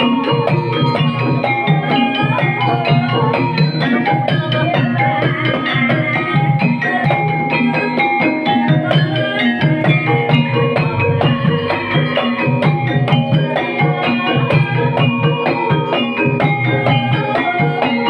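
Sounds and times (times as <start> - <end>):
hand drum beat: 0.0 - 18.0
ringing pitched gamelan notes: 0.0 - 18.0.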